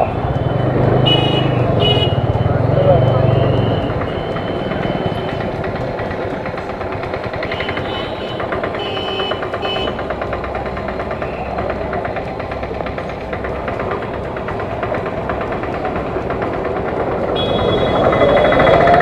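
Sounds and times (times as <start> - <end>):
motorcycle engine puttering: 0.0 - 19.0
road noise: 0.0 - 19.0.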